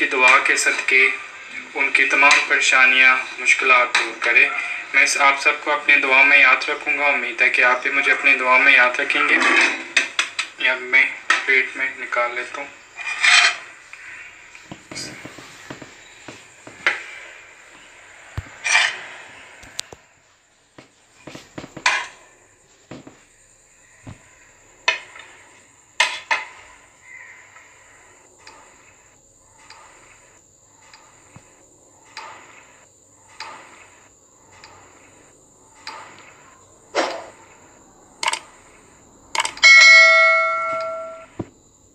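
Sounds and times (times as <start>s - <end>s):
faint high whine: 0.0s - 41.9s.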